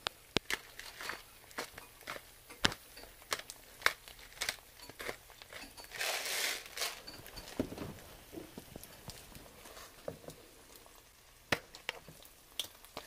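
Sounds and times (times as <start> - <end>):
egg crackling in hot oil: 0.0 - 13.0
grainy rustle: 0.4 - 11.0.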